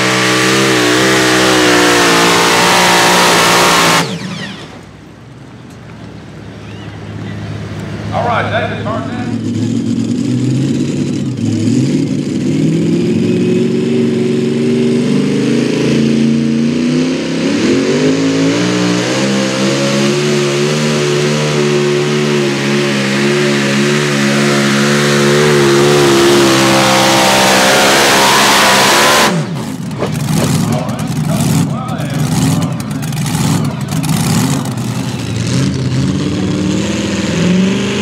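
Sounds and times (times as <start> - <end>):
racing engine at full throttle: 0.0 - 5.0, 7.2 - 38.0.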